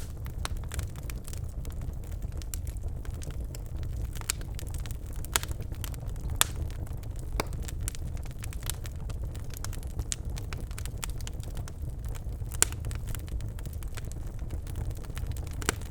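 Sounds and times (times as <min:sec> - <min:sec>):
fire rumbling in fireplace: 0:00.0 - 0:15.9
logs crackling and popping: 0:00.0 - 0:15.9.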